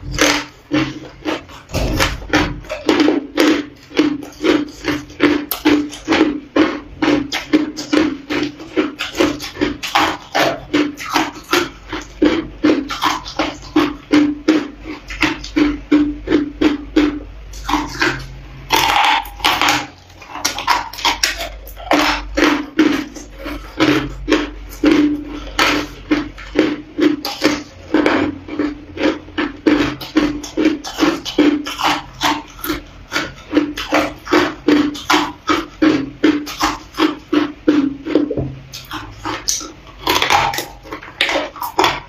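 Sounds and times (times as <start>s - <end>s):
crushed ice being chewed: 0.0s - 42.0s.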